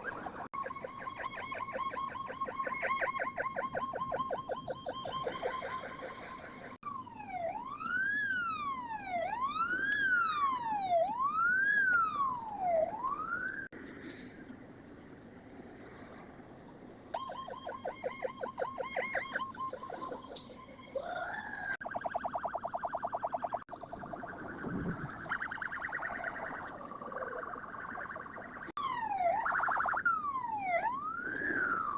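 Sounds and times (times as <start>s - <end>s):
fire truck siren yelp and wail: 0.0s - 13.7s, 17.2s - 31.9s.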